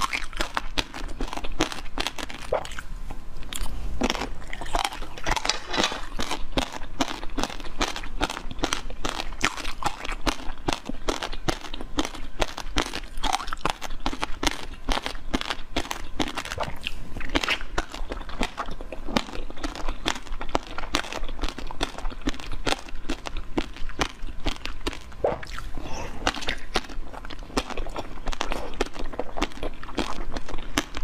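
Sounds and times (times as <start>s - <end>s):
crunching jelly balls: 0.0s - 31.0s
wet chewing: 0.0s - 31.0s.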